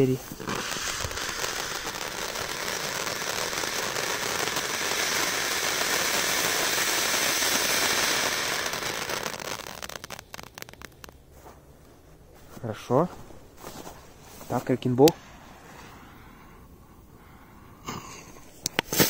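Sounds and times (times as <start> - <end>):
firework hissing crackle: 0.0 - 17.0, 17.9 - 19.0.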